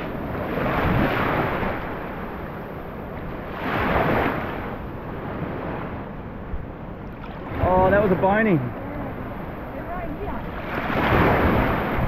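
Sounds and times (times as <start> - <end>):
small waves washing: 0.0 - 12.0
wind rumbling on microphone: 0.0 - 12.0.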